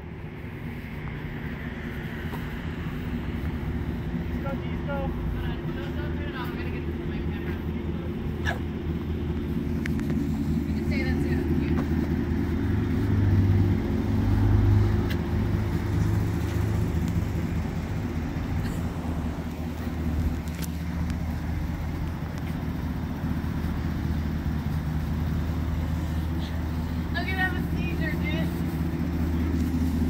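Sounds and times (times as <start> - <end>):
pickup truck engine idling: 0.0 - 30.0.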